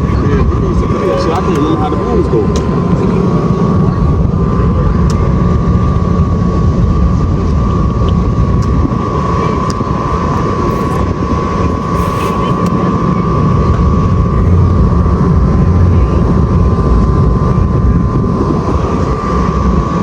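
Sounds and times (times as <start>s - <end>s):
machinery hum: 0.0s - 20.0s
wind rumble: 0.0s - 20.0s.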